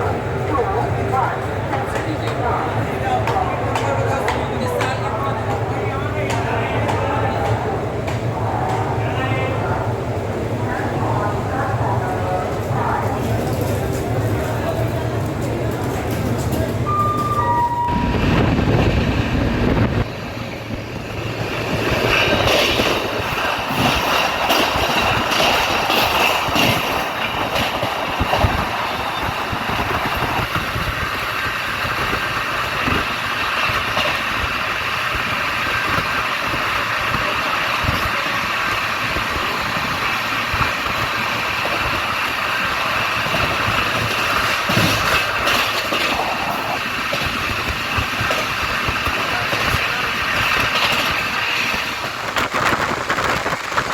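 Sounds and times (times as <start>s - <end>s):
train wheels on rails: 0.0s - 53.9s
train clicks and rattles: 0.5s - 9.0s, 12.4s - 17.4s, 18.4s - 53.9s.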